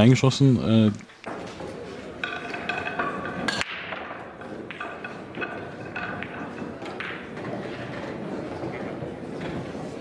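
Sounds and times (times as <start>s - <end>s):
billiard balls clicking: 1.0s - 10.0s.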